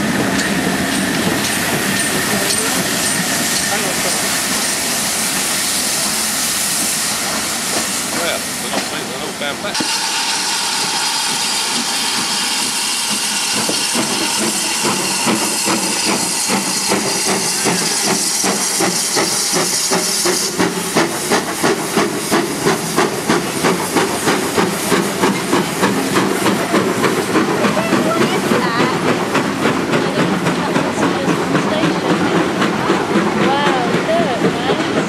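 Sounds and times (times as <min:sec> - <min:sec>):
steam hissing: 0:00.0 - 0:35.0
train wheels clicking over rail joints: 0:00.0 - 0:35.0.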